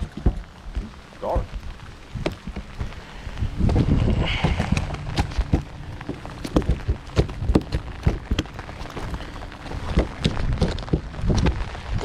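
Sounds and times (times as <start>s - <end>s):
heavy rain pouring: 0.0s - 12.0s
raindrops tapping microphone: 0.0s - 12.0s.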